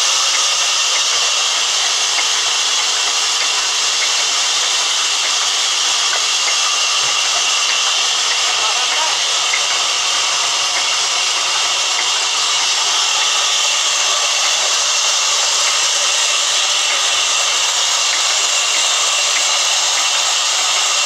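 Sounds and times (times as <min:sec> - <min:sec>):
band saw cutting log: 0:00.0 - 0:21.0.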